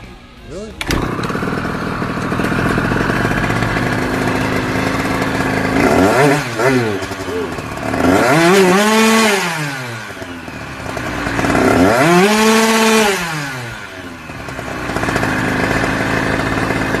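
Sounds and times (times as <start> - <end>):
small engine revving: 0.8 - 17.0.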